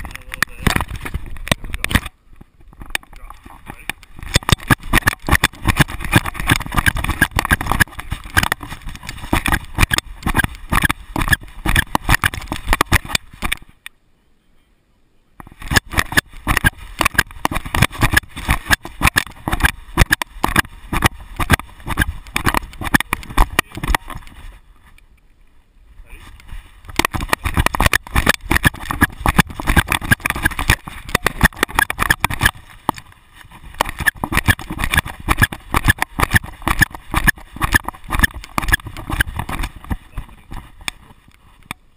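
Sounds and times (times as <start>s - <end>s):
camera rattling in mount: 0.0s - 13.7s, 15.4s - 24.4s, 26.9s - 33.1s, 33.7s - 41.1s.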